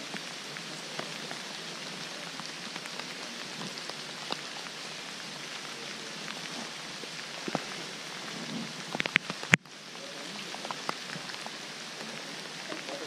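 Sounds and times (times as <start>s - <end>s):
raindrops ticking close by: 0.0s - 13.0s
steady rain hiss: 0.0s - 13.0s.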